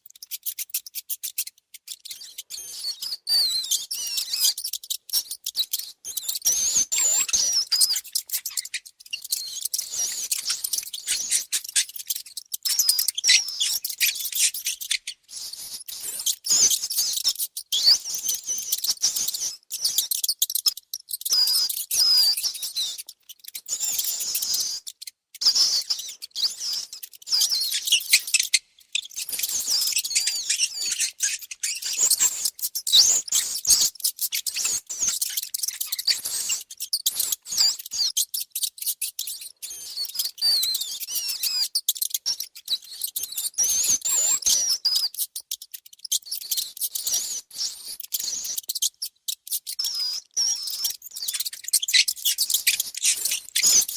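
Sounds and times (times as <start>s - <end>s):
mice squeaking: 0.0s - 53.9s.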